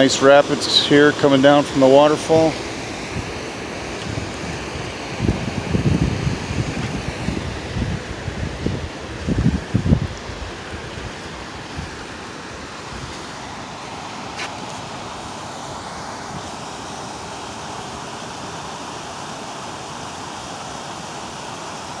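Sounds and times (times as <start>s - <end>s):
water rushing over rapids: 0.0s - 22.0s.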